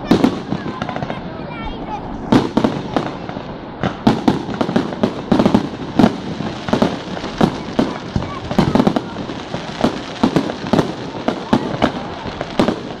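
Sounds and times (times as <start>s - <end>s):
firework shells bursting: 2.3s - 13.0s.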